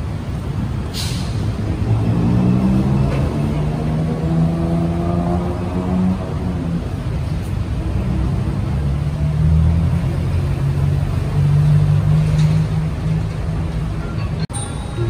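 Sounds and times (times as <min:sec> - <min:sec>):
low rumble of passing cars: 0:00.0 - 0:15.0.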